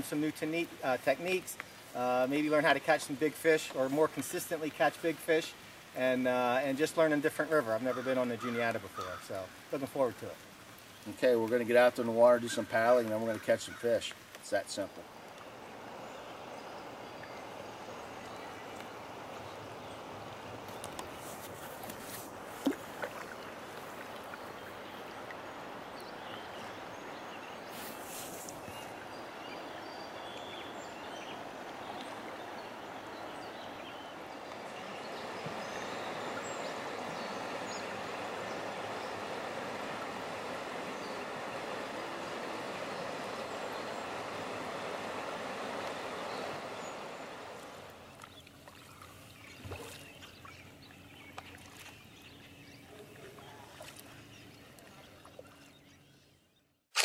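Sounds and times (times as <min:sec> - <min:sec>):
rushing river water: 0:00.0 - 0:55.8.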